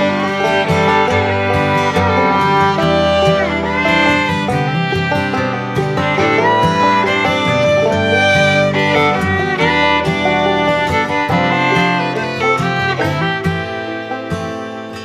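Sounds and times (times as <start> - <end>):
acoustic guitar strummed and picked: 0.0 - 15.0
fiddle: 0.0 - 15.0.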